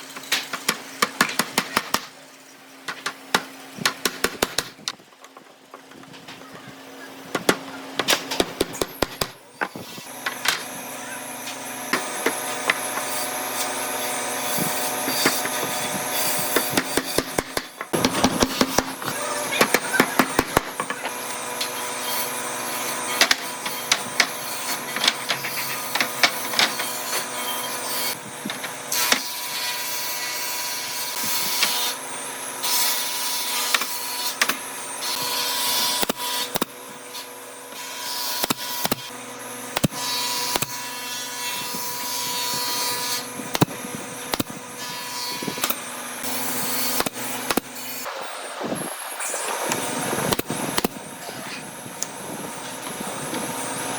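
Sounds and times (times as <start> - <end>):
power tool running on wood: 6.7 - 53.9.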